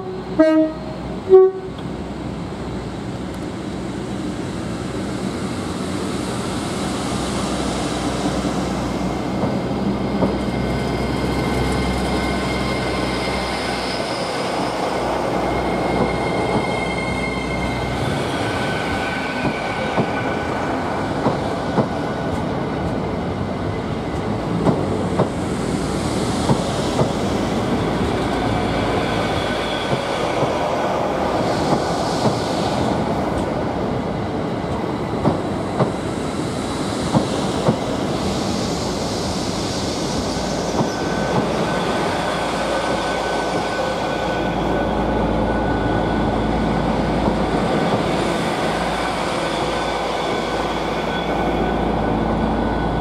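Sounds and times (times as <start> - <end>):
diesel train rumble and whine: 0.0 - 53.0.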